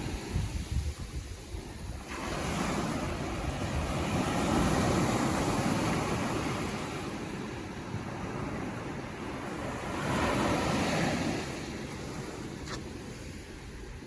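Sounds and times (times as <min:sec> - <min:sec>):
ocean surf washing ashore: 0:00.0 - 0:14.0
wind rumble on microphone: 0:00.0 - 0:14.0.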